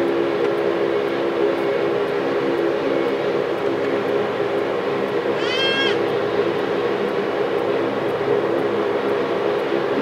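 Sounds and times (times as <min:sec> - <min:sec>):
turboprop engines droning: 0:00.0 - 0:10.0.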